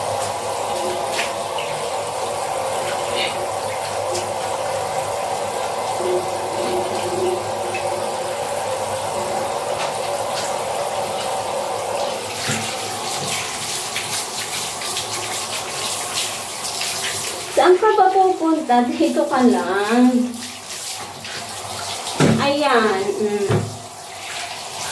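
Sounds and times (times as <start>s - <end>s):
shower spray splashing: 0.0s - 24.9s
shower water running: 0.0s - 24.9s.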